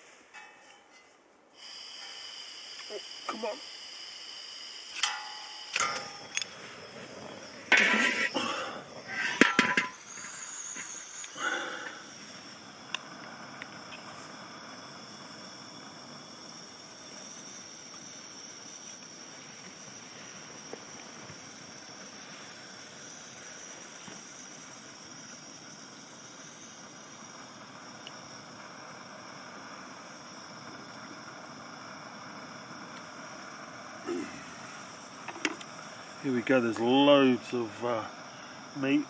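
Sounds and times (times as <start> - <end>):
camping stove burner hissing: 0.0 - 39.0.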